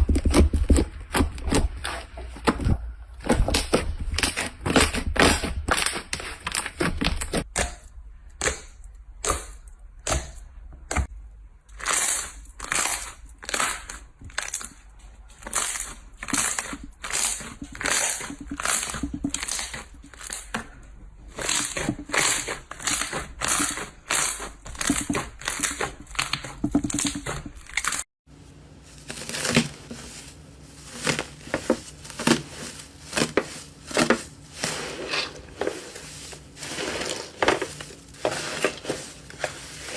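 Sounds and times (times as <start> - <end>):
slime crackling and squelching: 0.0 - 7.5, 11.7 - 20.6, 21.2 - 39.9.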